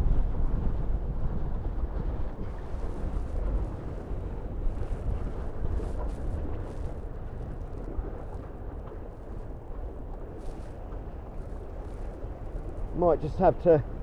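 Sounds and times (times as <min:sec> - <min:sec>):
wind rumbling on microphone: 0:00.0 - 0:14.0
water rushing past hulls: 0:01.8 - 0:14.0.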